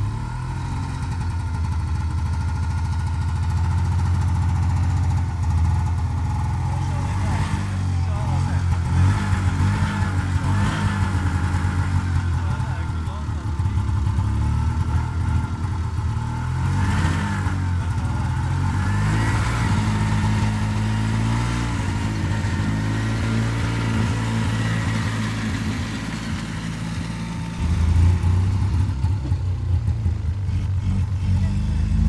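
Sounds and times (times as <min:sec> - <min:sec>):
snowmobile engine idling: 0:00.0 - 0:32.0.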